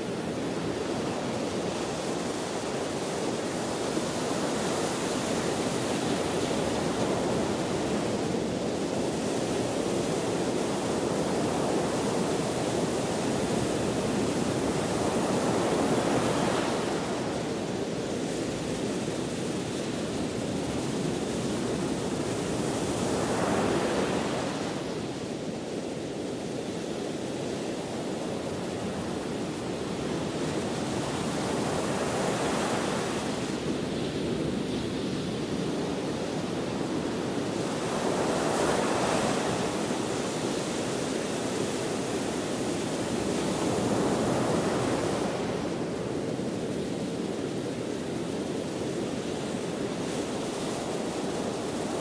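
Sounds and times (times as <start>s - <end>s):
ocean waves breaking on shore: 0.0s - 52.0s
steady wind: 0.0s - 52.0s.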